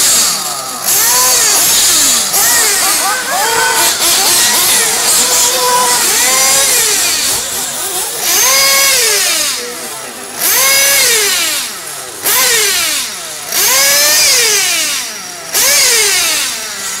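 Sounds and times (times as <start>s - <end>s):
rc car motors revving: 0.0s - 17.0s.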